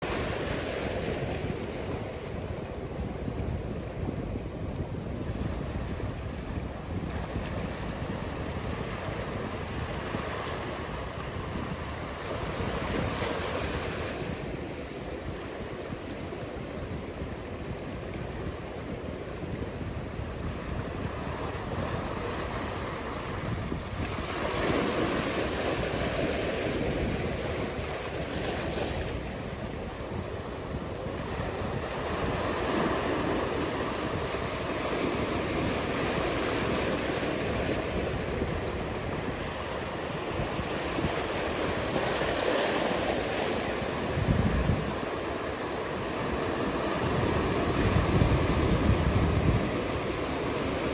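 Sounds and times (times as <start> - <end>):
waves breaking: 0.0 - 50.9
wind on microphone: 0.0 - 50.9.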